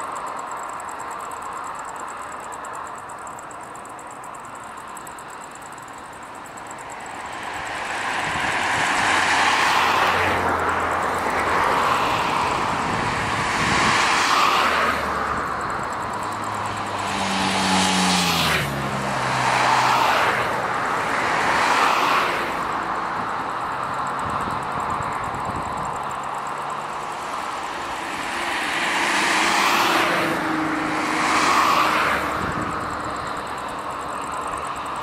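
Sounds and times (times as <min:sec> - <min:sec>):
distant jet engine roar: 0:00.8 - 0:35.0.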